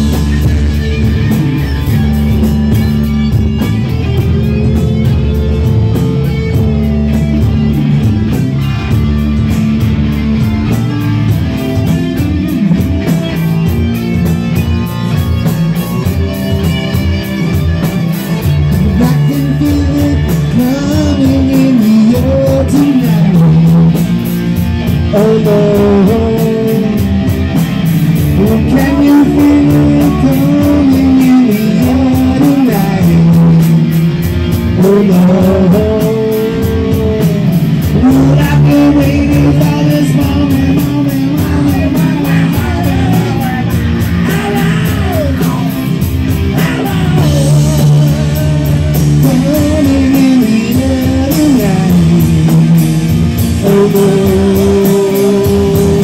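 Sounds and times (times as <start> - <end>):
drum kit: 0.0 - 56.0
guitars: 0.0 - 56.0
person singing: 10.0 - 24.3, 24.9 - 56.0.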